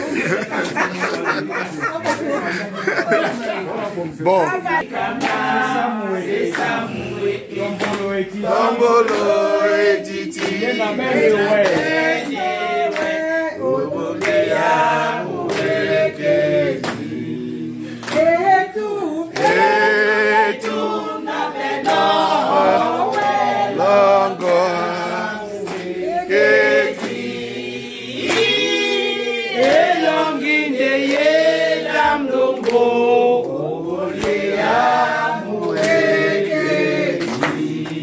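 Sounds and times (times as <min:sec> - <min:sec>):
group singing unaccompanied: 0:00.0 - 0:38.0
hand-clapping: 0:04.9 - 0:17.2, 0:17.9 - 0:38.0.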